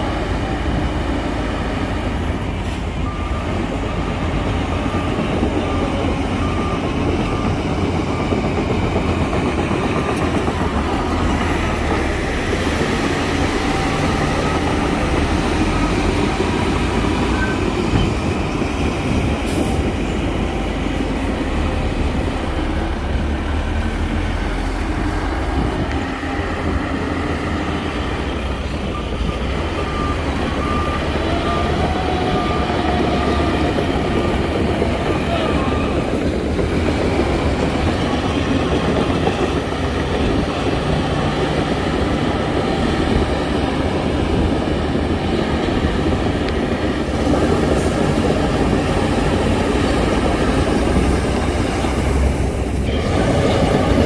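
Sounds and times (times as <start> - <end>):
diesel earthmoving machinery: 0.0 - 54.0.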